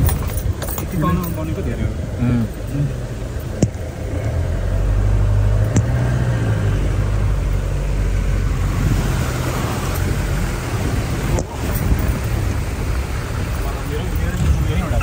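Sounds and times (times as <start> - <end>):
vehicle engine and tyre rumble: 0.0 - 15.0.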